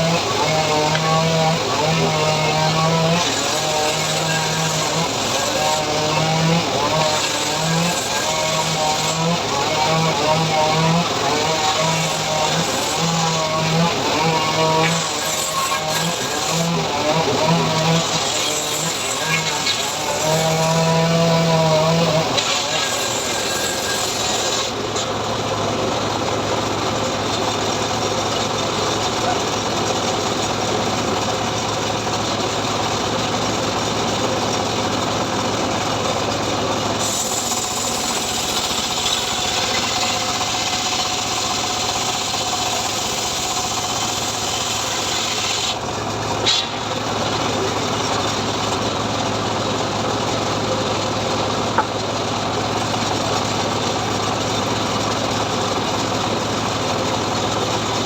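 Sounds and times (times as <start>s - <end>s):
saw rasping through log: 0.0s - 25.3s, 27.5s - 49.2s
engine hum: 0.0s - 58.0s.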